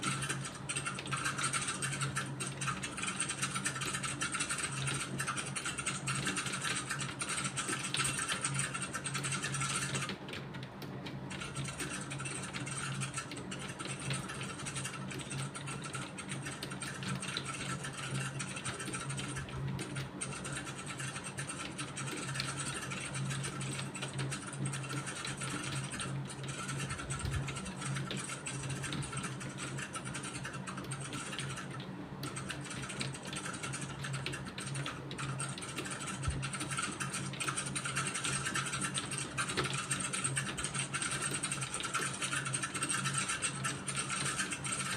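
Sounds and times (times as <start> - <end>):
typing on computer keyboard: 0.0 - 44.9.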